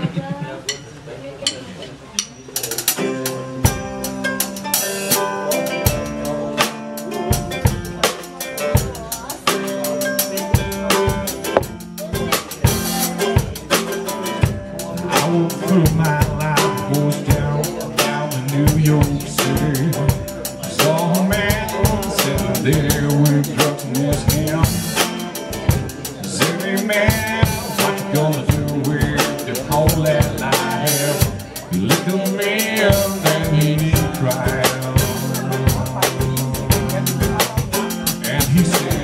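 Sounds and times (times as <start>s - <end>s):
drum kit beat: 1.4s - 39.0s
strummed acoustic guitar: 2.6s - 39.0s
man singing: 4.6s - 39.0s.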